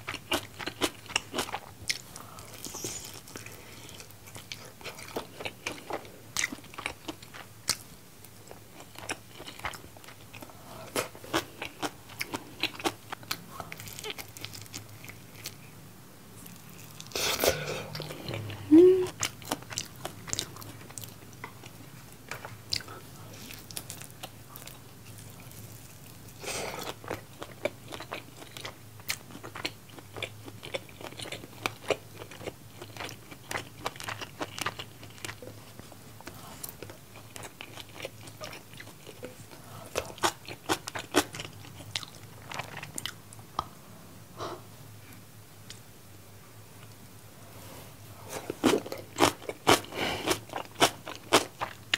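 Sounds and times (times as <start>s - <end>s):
chewing and crunching food: 0.0s - 15.7s, 16.4s - 43.7s, 48.2s - 51.9s.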